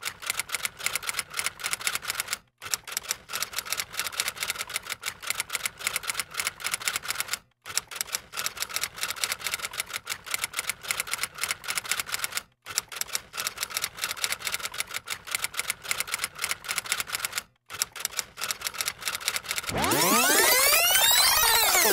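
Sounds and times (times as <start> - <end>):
rapid mechanical clicking: 0.0 - 21.9.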